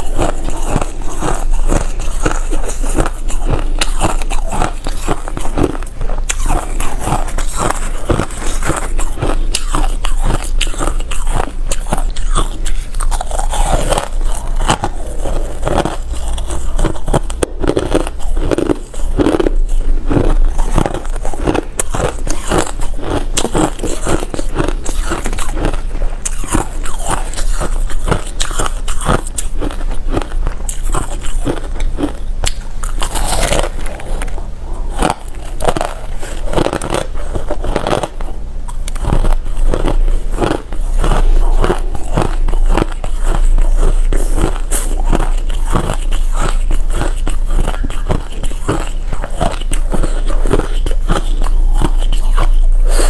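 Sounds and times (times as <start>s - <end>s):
chewing crunchy ice: 0.0s - 53.0s.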